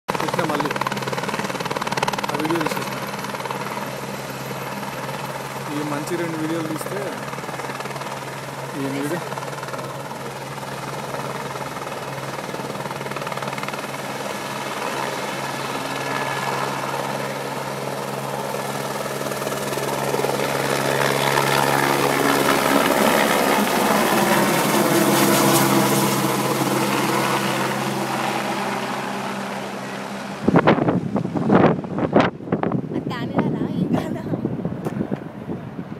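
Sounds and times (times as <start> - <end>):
helicopter rotor and turbine: 0.1 - 35.9.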